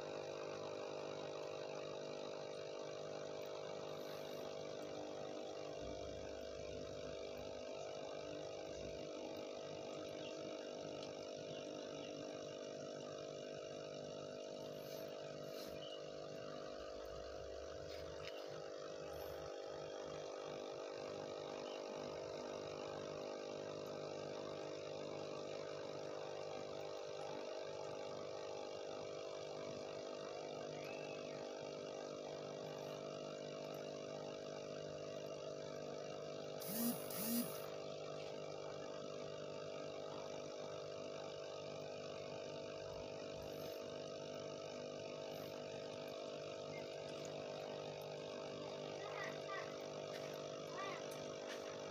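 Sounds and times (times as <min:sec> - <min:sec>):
air pump humming: 0:00.0 - 0:51.9.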